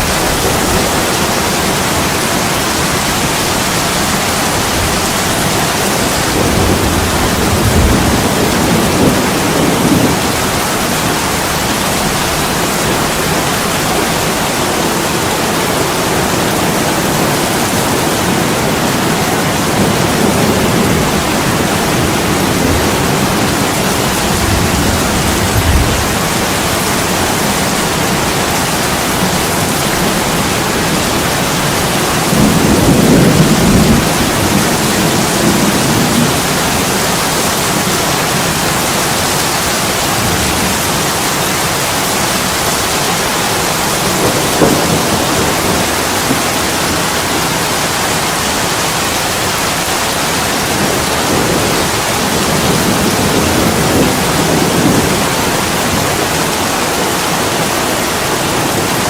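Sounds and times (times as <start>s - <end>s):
heavy rain on window glass: 0.0s - 59.0s.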